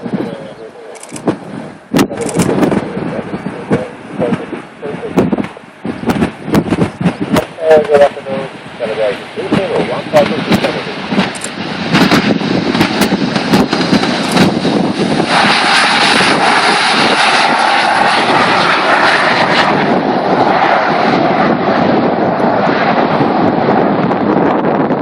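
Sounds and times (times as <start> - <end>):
jet engine roar with high whine: 0.0 - 25.0.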